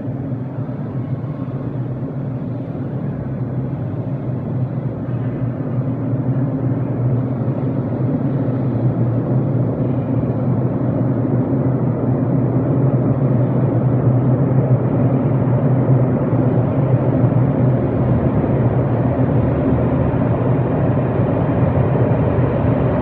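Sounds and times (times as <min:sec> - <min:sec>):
low rumble and hum: 0:00.0 - 0:23.0.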